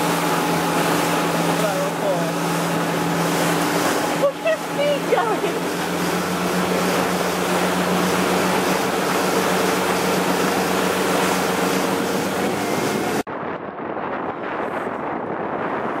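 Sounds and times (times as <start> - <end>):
churning wake: 0.0 - 16.0
motorboat engine running: 0.0 - 16.0
wind buffeting microphone: 0.0 - 16.0.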